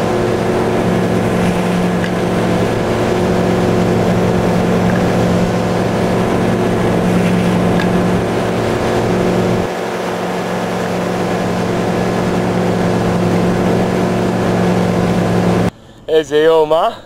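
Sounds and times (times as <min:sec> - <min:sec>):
water rushing: 0:00.0 - 0:15.7
boat engine running: 0:00.0 - 0:16.2
wind: 0:00.0 - 0:17.0.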